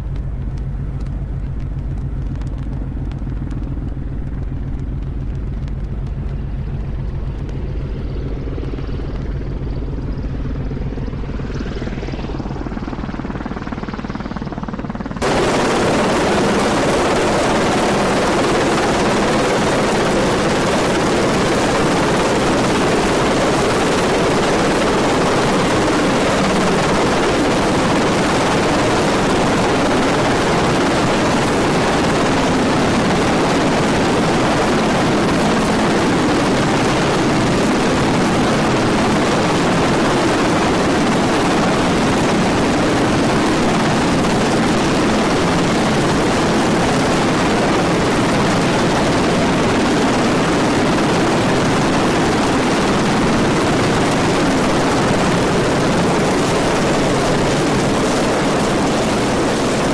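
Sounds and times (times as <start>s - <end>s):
helicopter rotor and engine noise: 0.0s - 59.9s.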